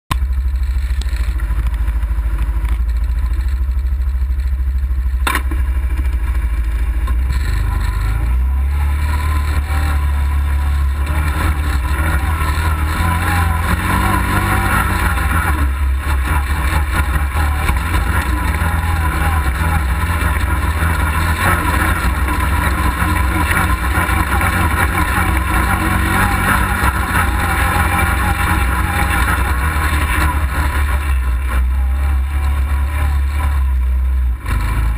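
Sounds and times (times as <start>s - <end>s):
dirt bike engine low revs: 5.2s - 34.9s.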